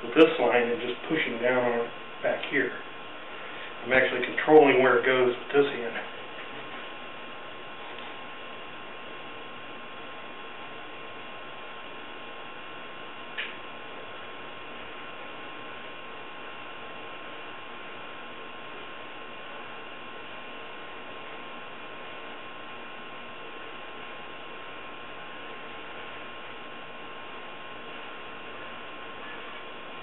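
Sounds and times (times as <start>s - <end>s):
background hum and hiss: 0.0s - 30.0s
faint constant tone: 0.0s - 30.0s.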